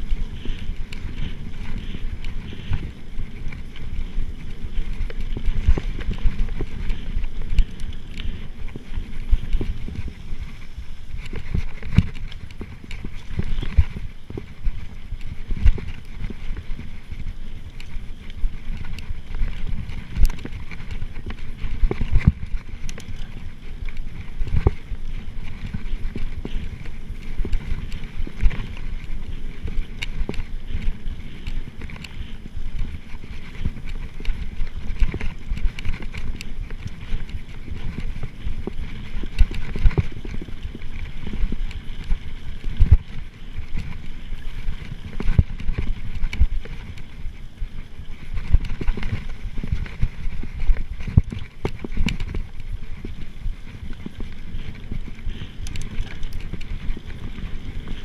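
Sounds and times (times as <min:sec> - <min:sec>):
bike knocking and rattling: 0:00.0 - 0:58.0
bike tyres rumbling on dirt: 0:00.0 - 0:58.0.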